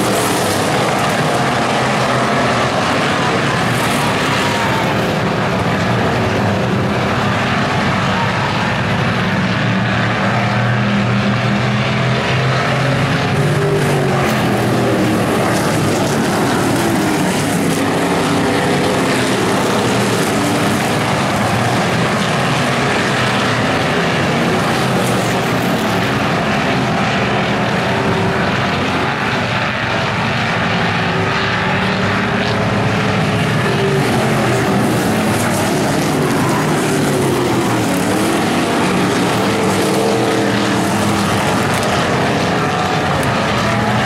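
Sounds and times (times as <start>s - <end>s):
stock car engines droning: 0.0s - 44.0s.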